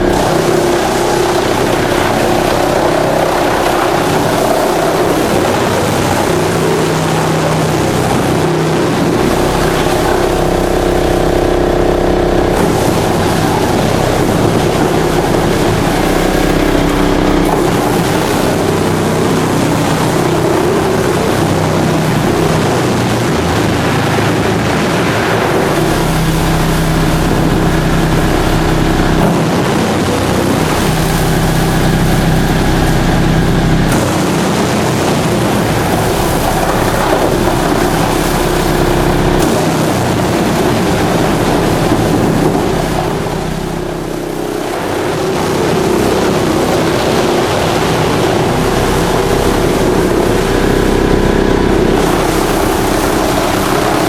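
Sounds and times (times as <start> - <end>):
wood chipper drone: 0.0 - 54.0.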